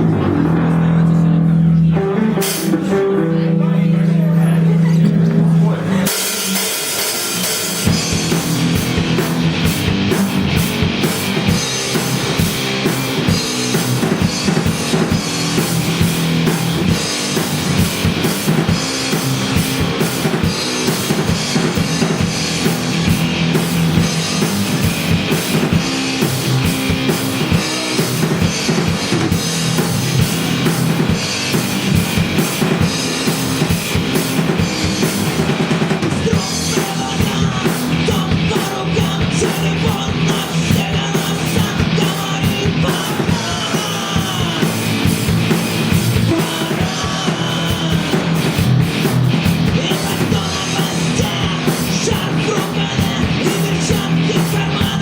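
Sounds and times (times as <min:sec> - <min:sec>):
drum kit beat: 0:00.0 - 0:03.4, 0:04.7 - 0:55.0
live rock band playing: 0:00.0 - 0:55.0.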